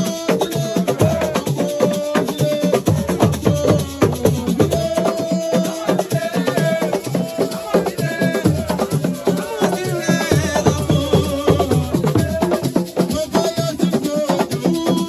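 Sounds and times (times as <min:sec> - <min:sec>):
drums and clacking percussion: 0:00.0 - 0:15.0.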